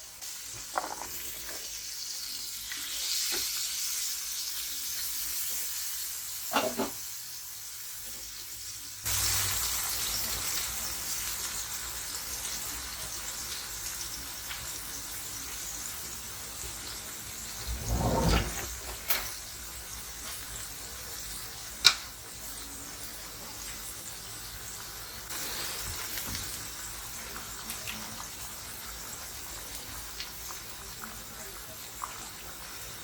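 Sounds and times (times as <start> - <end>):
food sizzling in oil: 0.0 - 17.7, 18.8 - 29.8.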